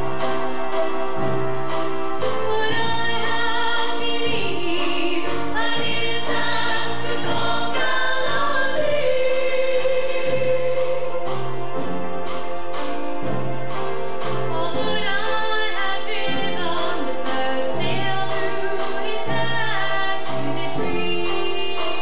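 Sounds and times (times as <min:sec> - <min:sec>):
chorus singing in harmony: 0:00.0 - 0:22.0.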